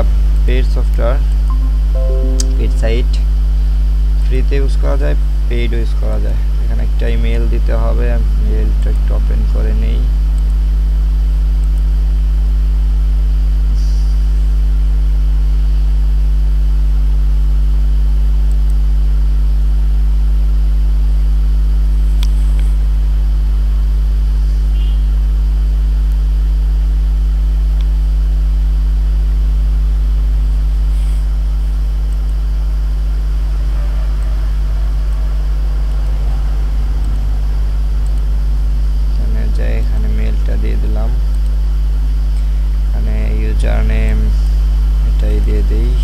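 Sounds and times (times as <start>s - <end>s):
electrical mains hum: 4.2s - 46.0s.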